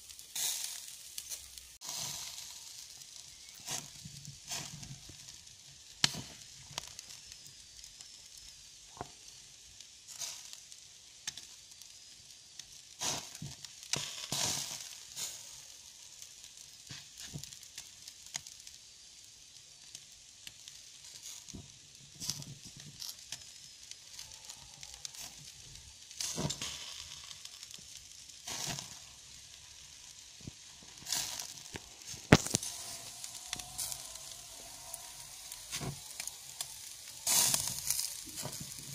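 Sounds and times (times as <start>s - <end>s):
embers crackling and popping: 0.0s - 38.9s
meat sizzling on grill: 0.0s - 38.9s.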